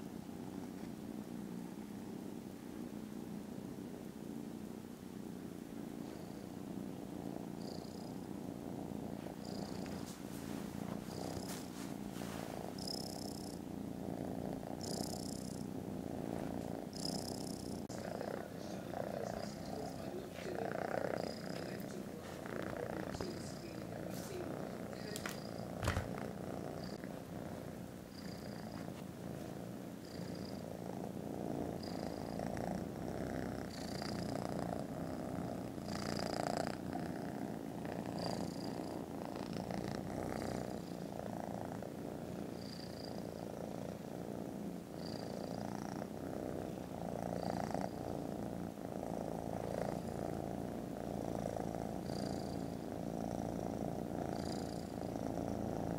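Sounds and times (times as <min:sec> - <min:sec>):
kittens purring: 0:00.0 - 0:55.9.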